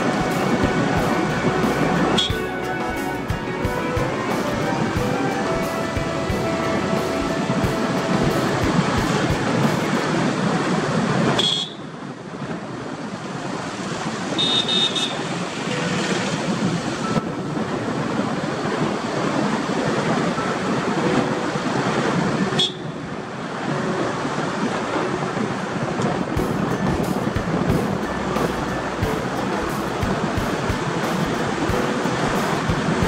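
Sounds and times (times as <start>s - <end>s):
car driving road noise: 0.0s - 33.0s.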